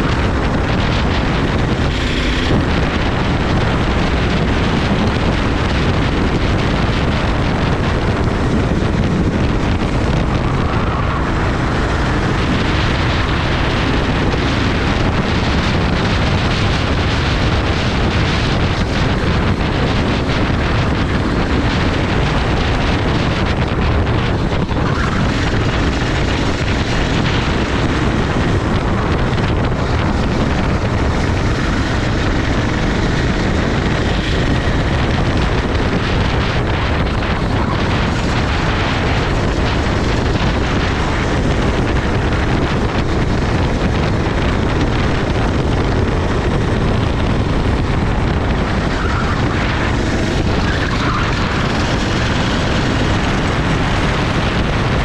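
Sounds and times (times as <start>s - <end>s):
go-kart engine racing: 0.0s - 55.0s
wind buffeting microphone: 0.0s - 55.0s.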